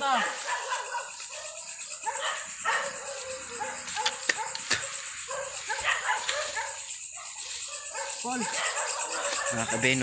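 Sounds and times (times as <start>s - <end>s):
dogs barking: 0.3s - 10.0s.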